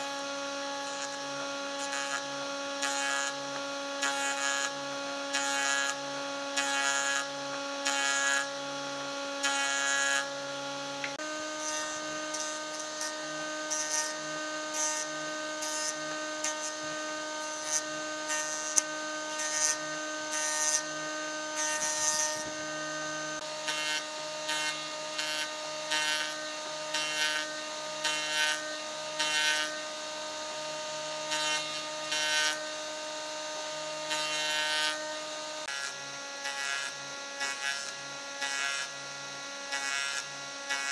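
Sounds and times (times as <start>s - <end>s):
jointer humming: 0.0s - 40.9s
rasping cut into wood: 0.0s - 40.9s.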